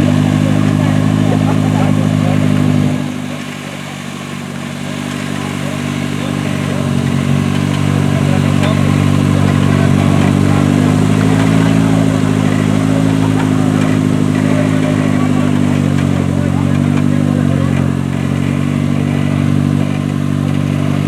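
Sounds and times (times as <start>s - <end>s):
off-road vehicle engine under load: 0.0s - 21.0s.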